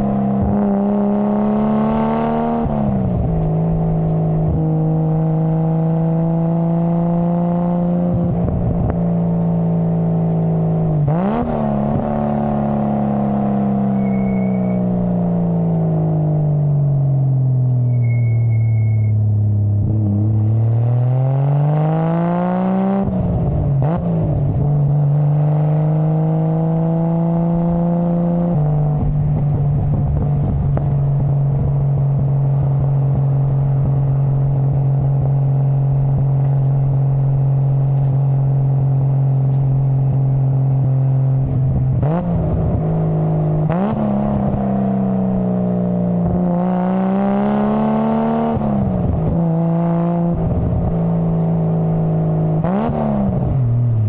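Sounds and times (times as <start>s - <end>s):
car engine revving: 0.0s - 18.0s, 19.3s - 54.0s.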